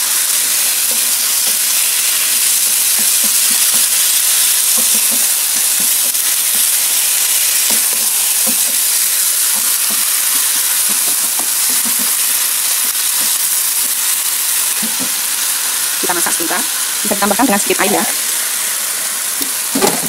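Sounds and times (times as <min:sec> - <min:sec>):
beef and onions sizzling in pan: 0:00.0 - 0:20.0.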